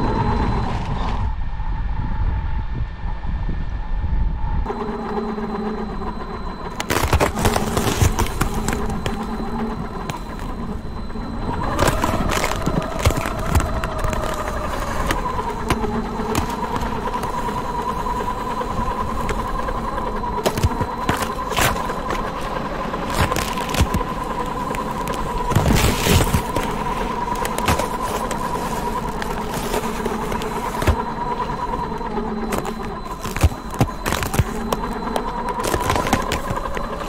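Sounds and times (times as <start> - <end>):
rc car motor whining: 4.7 - 37.0
tyres crackling on ice: 6.6 - 37.0.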